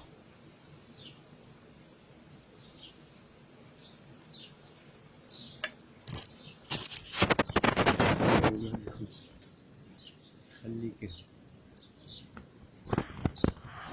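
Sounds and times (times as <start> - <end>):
small birds chirping: 0.7 - 1.4, 2.4 - 13.9.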